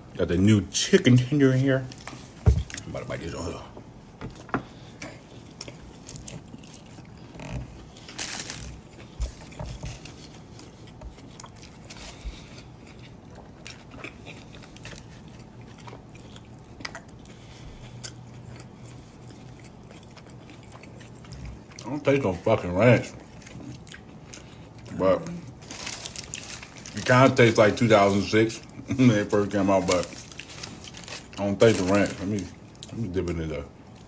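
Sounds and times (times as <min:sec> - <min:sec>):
man chewing crunchy food: 0:04.3 - 0:33.2.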